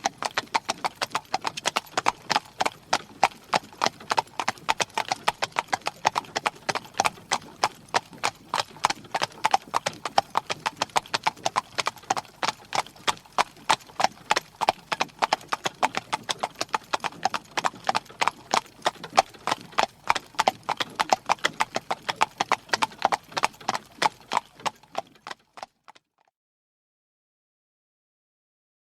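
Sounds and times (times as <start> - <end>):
horse hooves clip-clopping: 0.0 - 26.1.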